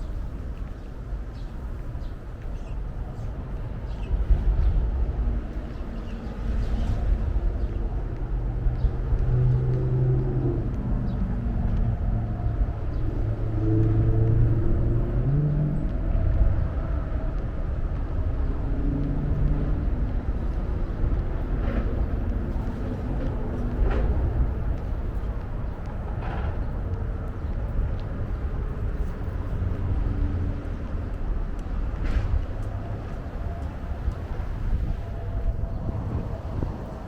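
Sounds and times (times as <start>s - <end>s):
passing vehicles humming: 0.0s - 37.0s
road traffic rumble: 0.0s - 37.0s.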